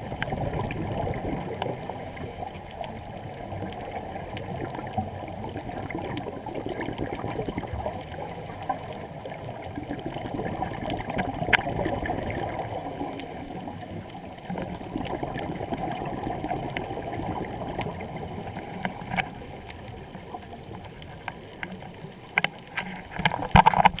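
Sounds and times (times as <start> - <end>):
water rushing and splashing: 0.0 - 24.0.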